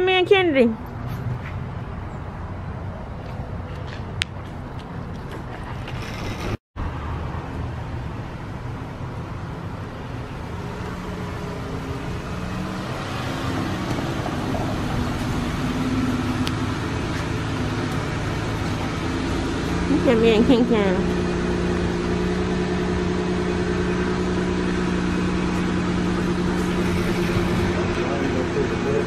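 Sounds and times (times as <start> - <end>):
minivan engine hum: 0.0 - 29.0.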